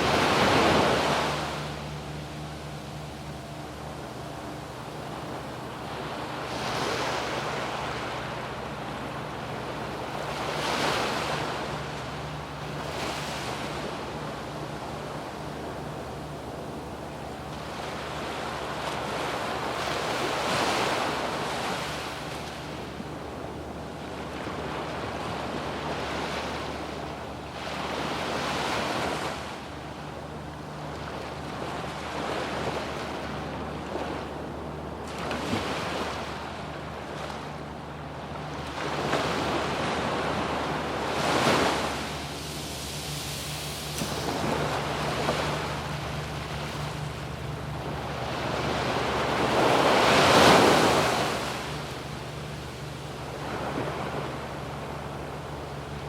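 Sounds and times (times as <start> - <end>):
sea waves breaking on beach: 0.0 - 56.0
steady low hum: 0.0 - 56.0.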